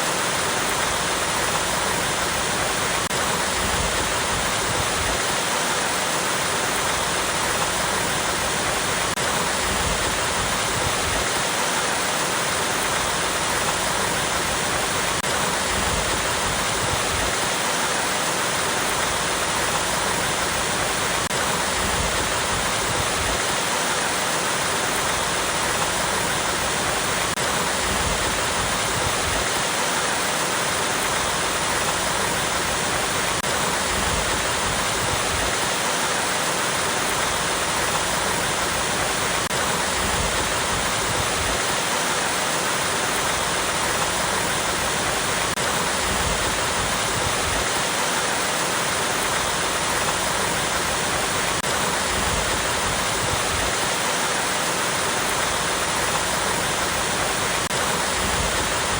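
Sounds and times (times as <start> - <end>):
water rushing over rocks: 0.0 - 58.9.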